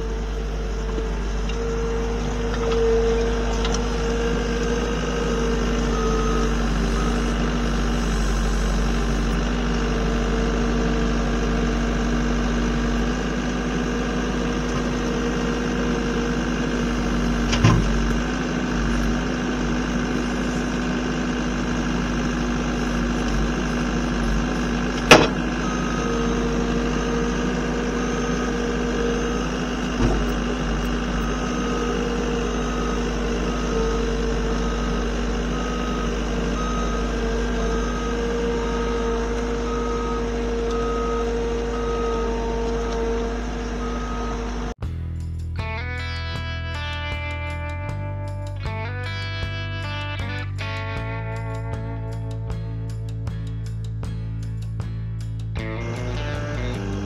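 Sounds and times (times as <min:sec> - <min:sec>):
engine running steadily: 0:00.0 - 0:44.8, 0:45.6 - 0:57.0.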